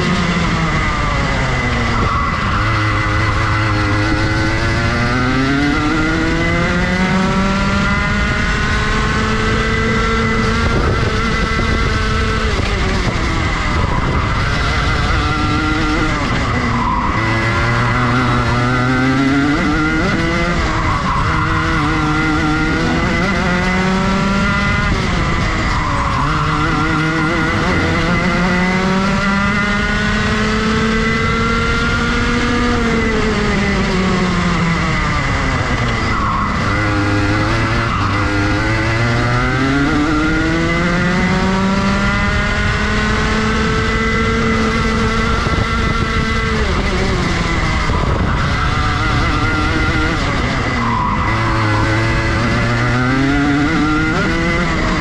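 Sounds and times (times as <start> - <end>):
kart engine accelerating: 0.0 - 55.0.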